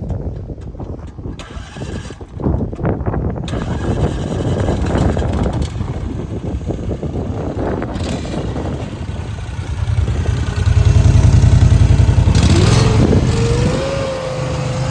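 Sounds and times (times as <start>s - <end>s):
skid loader engine starting: 0.0s - 14.9s.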